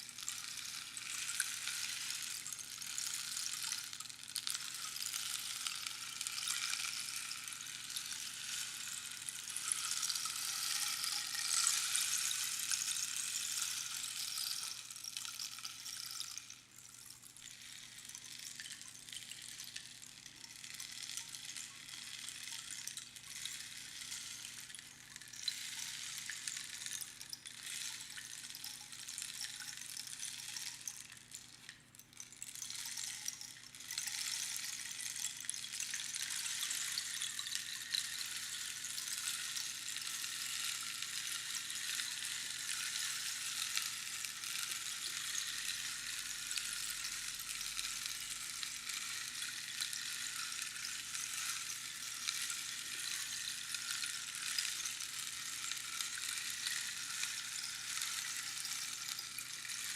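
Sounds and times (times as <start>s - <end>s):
rainstick pebbles trickling: 0.0s - 59.9s.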